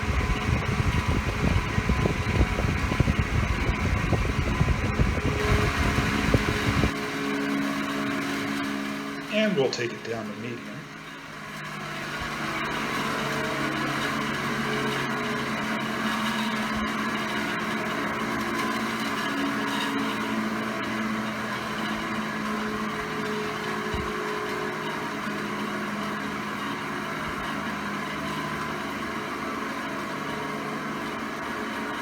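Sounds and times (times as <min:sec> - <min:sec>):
fan blade air whir: 0:00.0 - 0:32.0
fan motor hum: 0:00.0 - 0:32.0.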